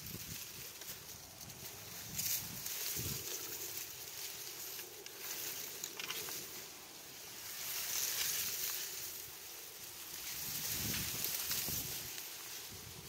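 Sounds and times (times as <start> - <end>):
faint rustling: 0.0 - 13.0
steady outdoor hiss: 0.0 - 13.0.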